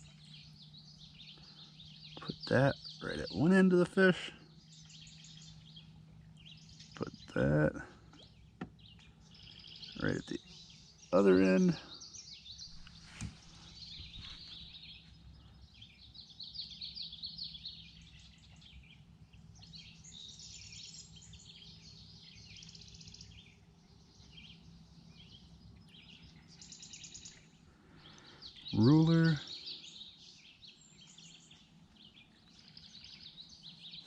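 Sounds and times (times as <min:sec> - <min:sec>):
faint low hum: 0:00.0 - 0:34.0
small birds chirping: 0:00.0 - 0:34.0.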